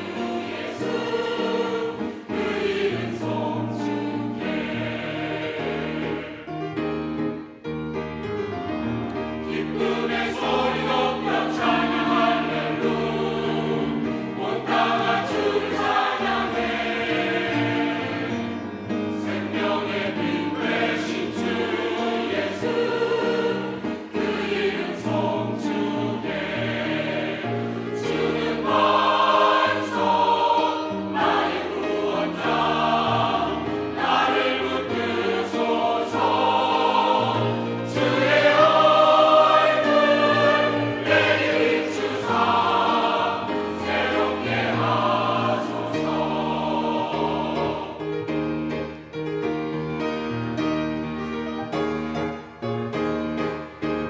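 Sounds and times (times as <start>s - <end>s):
church choir singing: 0.0s - 54.0s.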